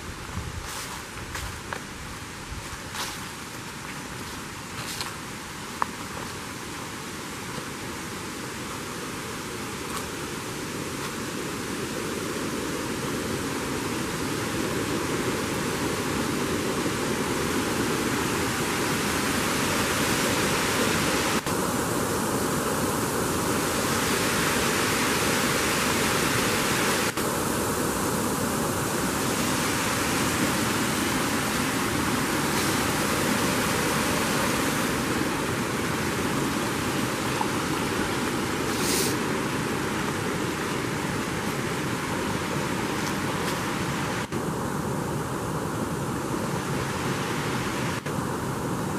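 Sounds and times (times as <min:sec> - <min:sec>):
brook water rushing over rocks: 0:01.2 - 0:48.9.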